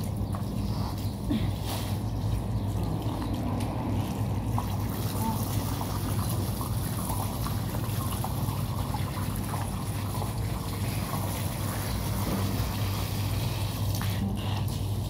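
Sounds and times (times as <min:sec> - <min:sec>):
water running from hose: 0:00.0 - 0:15.0.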